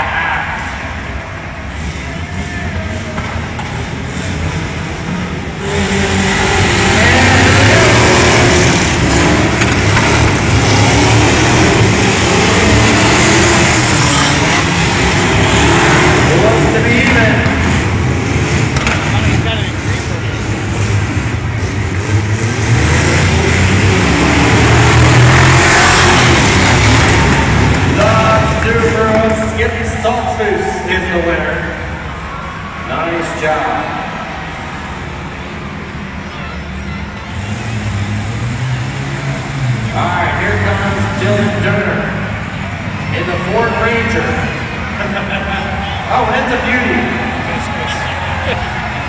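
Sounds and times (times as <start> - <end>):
engines revving hard: 0.0 - 49.0.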